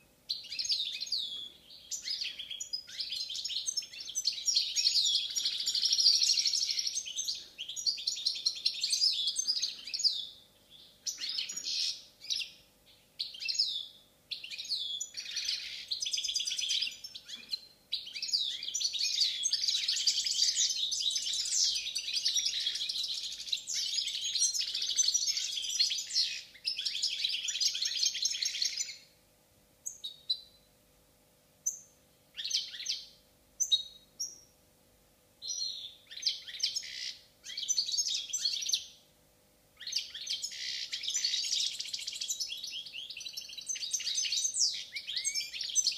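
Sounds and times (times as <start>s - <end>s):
goldfinch calls: 0.3s - 10.4s, 11.0s - 12.6s, 13.2s - 29.1s, 31.6s - 34.5s, 35.4s - 38.9s, 39.8s - 45.9s
goldfinch twittering song: 0.3s - 12.6s, 13.2s - 29.1s, 31.6s - 34.5s, 35.4s - 39.0s, 39.8s - 45.9s.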